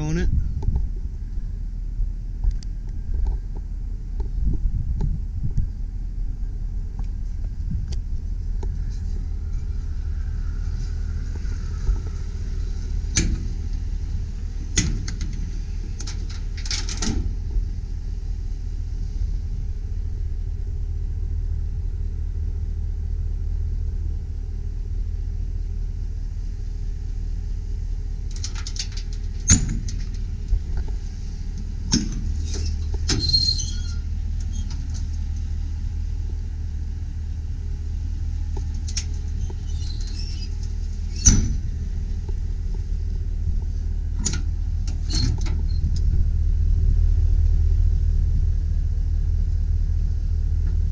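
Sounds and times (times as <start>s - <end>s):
pickup engine idling: 0.0s - 50.9s.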